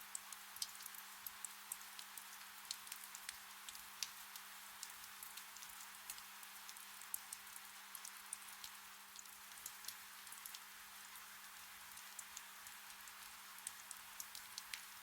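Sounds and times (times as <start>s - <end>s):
gentle rain: 0.0s - 15.0s.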